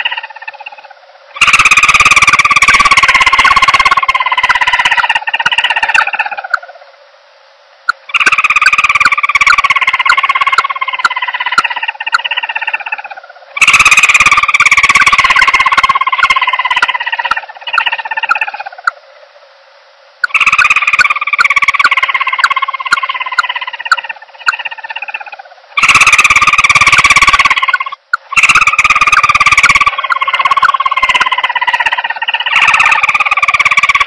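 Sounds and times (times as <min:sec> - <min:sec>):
fast-pulsing dove call: 0:00.0 - 0:06.8, 0:08.0 - 0:19.0, 0:20.2 - 0:34.0.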